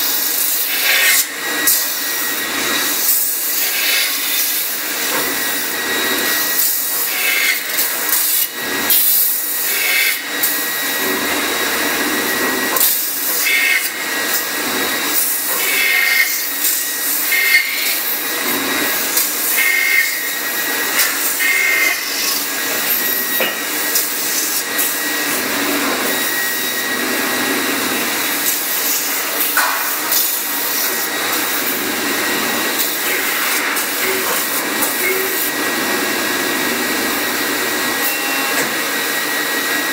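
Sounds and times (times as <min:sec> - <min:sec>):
metal-spinning lathe hissing: 0:00.0 - 0:39.7.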